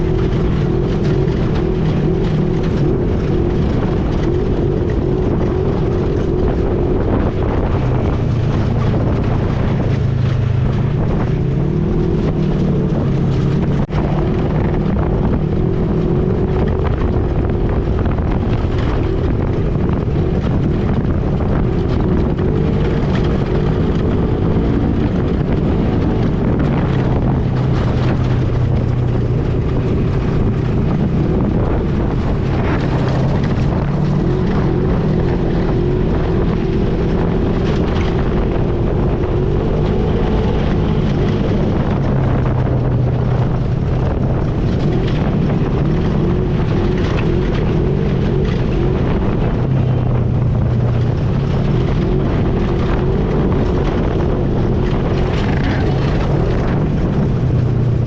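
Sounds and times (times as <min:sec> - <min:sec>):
atv engine running: 0:00.0 - 0:58.0
wind noise on microphone: 0:00.0 - 0:58.0.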